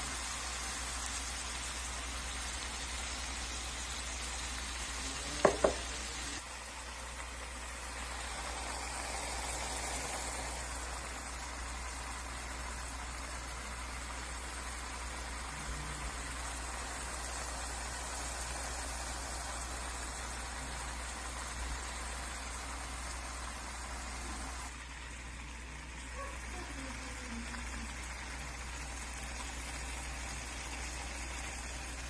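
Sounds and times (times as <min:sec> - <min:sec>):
gravy sizzling and bubbling in pan: 0:00.0 - 0:32.0.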